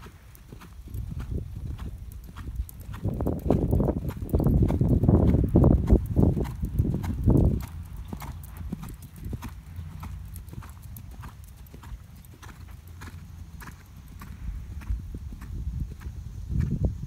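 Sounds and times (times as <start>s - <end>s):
horse hoofbeats on sand: 0.0s - 16.9s.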